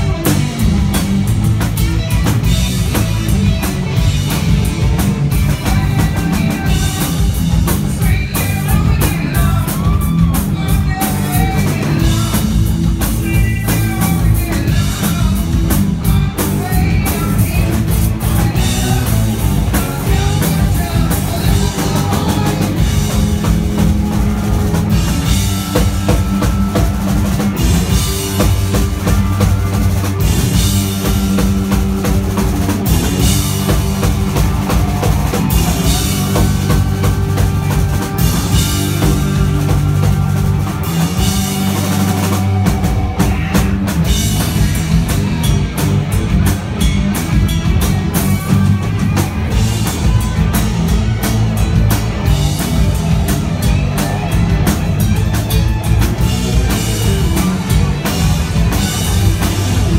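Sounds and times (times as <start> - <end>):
electric guitars bending notes: 0.0 - 59.9
live rock band playing: 0.0 - 59.9.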